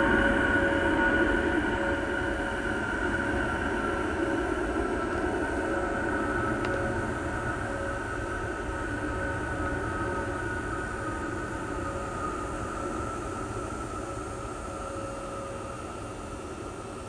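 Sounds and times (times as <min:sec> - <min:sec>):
jet aircraft flying overhead: 0:00.0 - 0:17.0.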